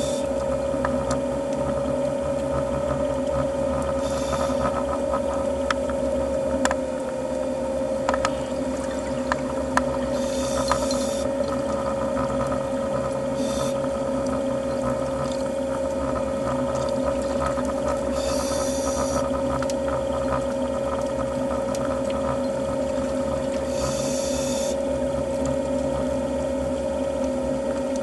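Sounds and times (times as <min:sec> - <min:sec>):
boat engine hum underwater: 0:00.0 - 0:28.0.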